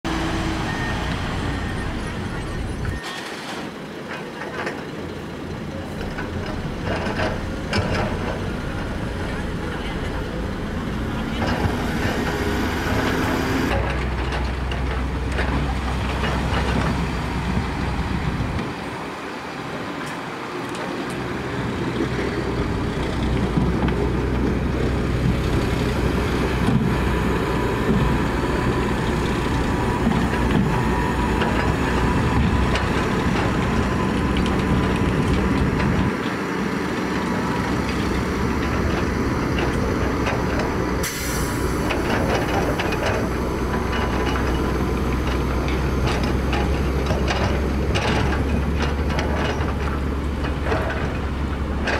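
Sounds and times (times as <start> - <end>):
heavy diesel engine running: 0.0 - 3.0, 3.8 - 19.2, 20.5 - 51.9.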